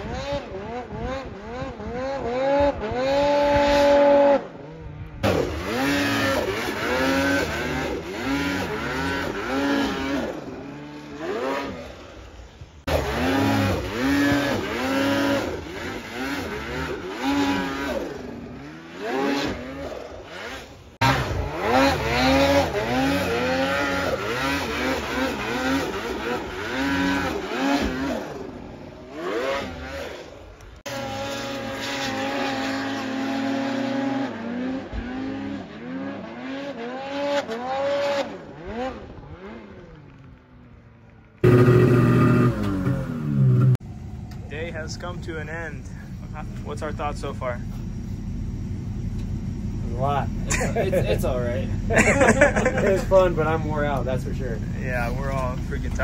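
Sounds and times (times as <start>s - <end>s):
snowmobile engines revving: 0.0s - 40.5s, 41.4s - 56.0s.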